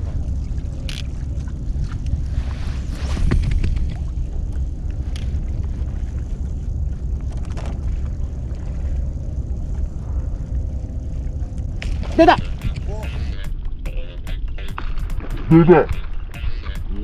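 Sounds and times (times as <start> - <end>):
wind buffeting microphone: 0.0 - 13.8
choppy water sloshing: 0.0 - 13.9.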